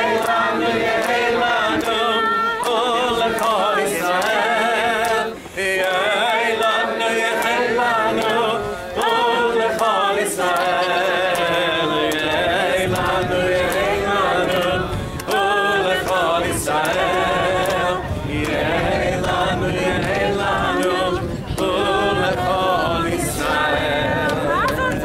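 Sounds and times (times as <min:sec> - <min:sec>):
group of people singing: 0:00.0 - 0:25.0
hand claps: 0:00.0 - 0:25.0.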